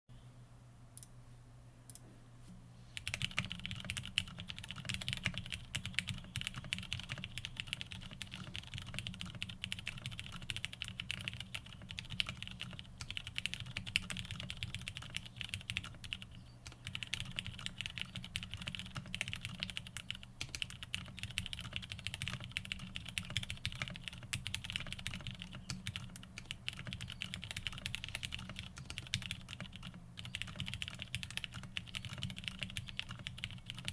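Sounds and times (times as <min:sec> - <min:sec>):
fast mechanical keyboard typing: 0:03.0 - 0:33.9.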